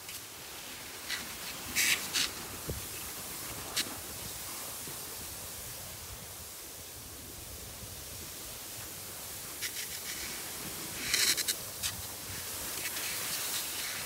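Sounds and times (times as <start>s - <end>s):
skis gliding over snow: 0.0s - 14.0s.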